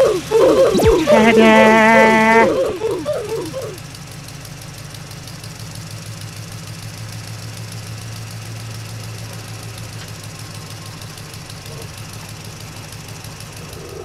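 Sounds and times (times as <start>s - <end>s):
truck engine droning: 0.0s - 5.8s, 6.4s - 14.0s.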